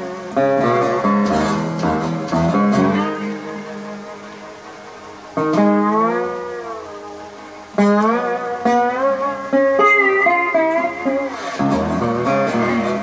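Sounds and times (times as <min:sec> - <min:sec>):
guitar chord strummed: 0:00.0 - 0:13.0
resonator guitar plucked notes: 0:00.0 - 0:13.0.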